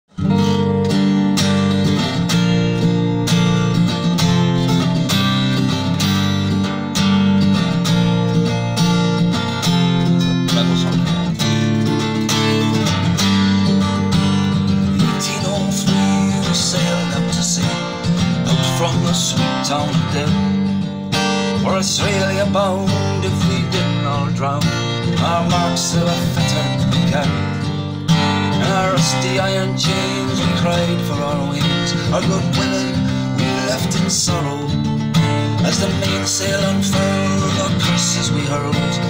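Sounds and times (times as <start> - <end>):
acoustic guitar strummed: 0.0 - 39.0.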